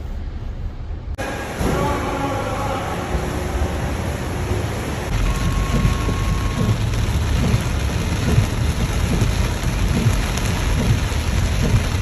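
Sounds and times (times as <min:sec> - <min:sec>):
low rumbles: 0:00.0 - 0:12.0
rushing water: 0:01.2 - 0:12.0.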